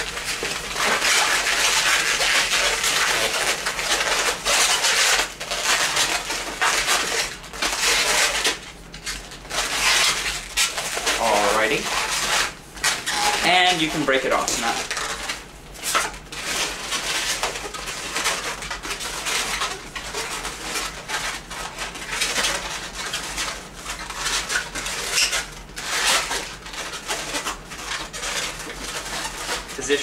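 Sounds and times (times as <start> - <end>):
balloons squeaking and rubbing: 0.0 - 30.0.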